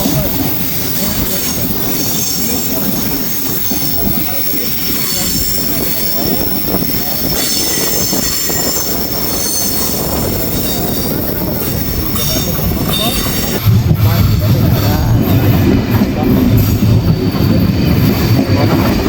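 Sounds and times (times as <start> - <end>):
rail car wheels squealing: 0.0 - 19.0
rumbling ride noise: 0.0 - 19.0.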